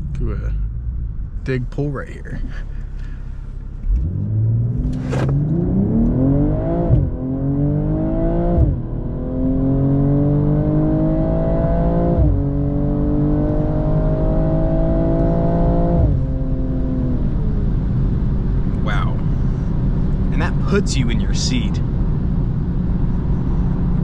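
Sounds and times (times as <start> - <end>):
car engine accelerating through gears: 2.4 - 24.0.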